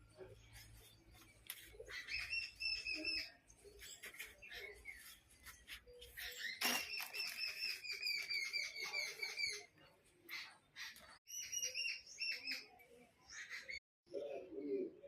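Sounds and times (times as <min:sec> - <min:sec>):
small bird chirping: 0:00.0 - 0:13.8.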